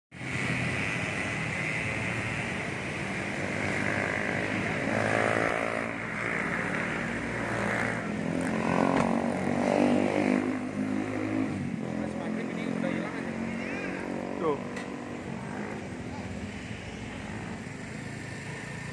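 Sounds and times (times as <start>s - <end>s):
street traffic: 0.1s - 18.9s
motorcycles passing: 0.2s - 18.9s.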